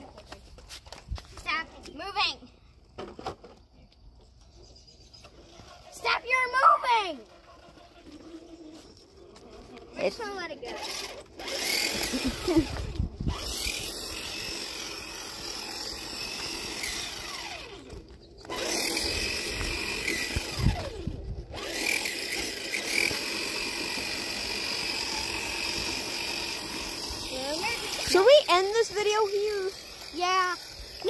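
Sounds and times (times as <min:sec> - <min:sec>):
toy car electric motor whining: 0:05.2 - 0:31.0.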